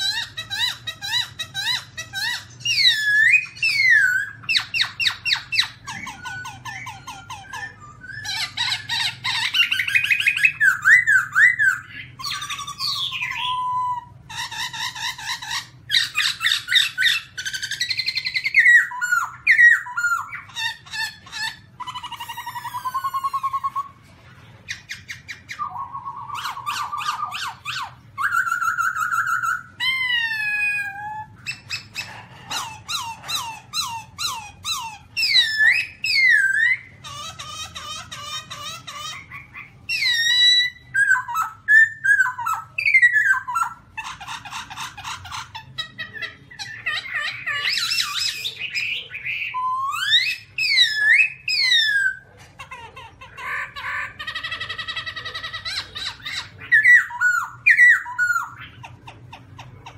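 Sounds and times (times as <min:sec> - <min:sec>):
bird singing whistles and trills: 0:00.0 - 0:24.0, 0:24.7 - 0:32.2, 0:32.9 - 0:37.2, 0:39.0 - 0:43.9, 0:46.1 - 0:52.2, 0:55.7 - 0:58.9.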